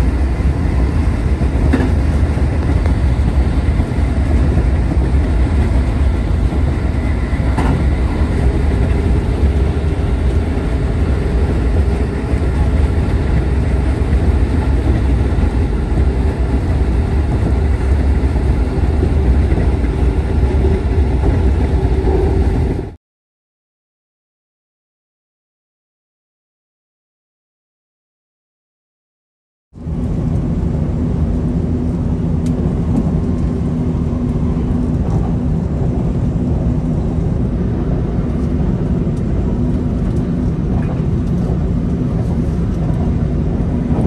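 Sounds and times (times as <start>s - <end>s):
train wheels rumbling on rail: 0.0s - 23.0s, 29.8s - 44.0s.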